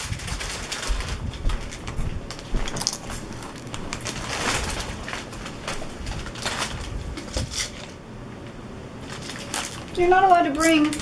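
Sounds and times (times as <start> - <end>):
potato chips crunching: 0.0 - 8.0, 9.0 - 11.0.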